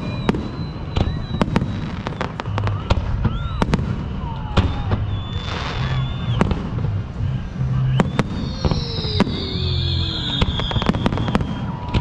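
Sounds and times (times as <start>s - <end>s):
fireworks bangs: 0.0s - 12.0s
fireworks whistles: 0.0s - 12.0s.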